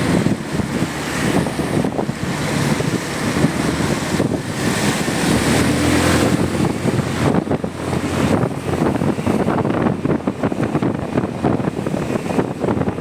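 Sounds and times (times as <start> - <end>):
road noise: 0.0 - 13.0
wind blasting microphone: 0.0 - 13.0.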